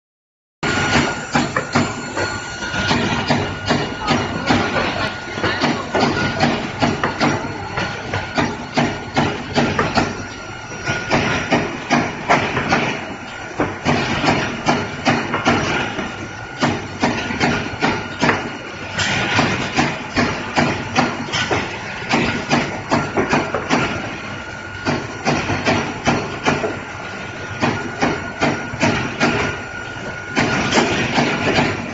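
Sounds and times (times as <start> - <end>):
high machine whine: 0.6 - 31.9
machine clattering in rhythm: 0.6 - 31.9.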